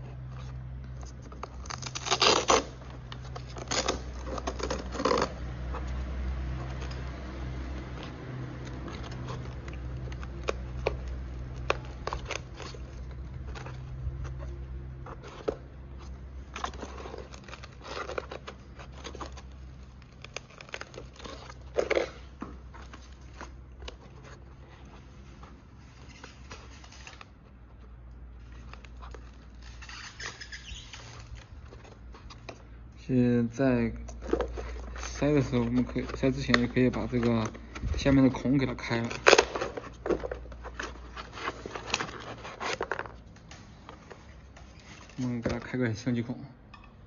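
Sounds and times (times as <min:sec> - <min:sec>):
rustling scrapes of foam and plastic: 0:00.0 - 0:45.8.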